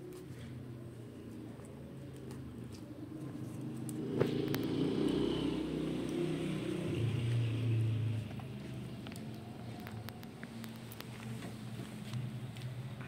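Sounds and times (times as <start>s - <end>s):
vehicle engine droning: 0.3s - 13.0s.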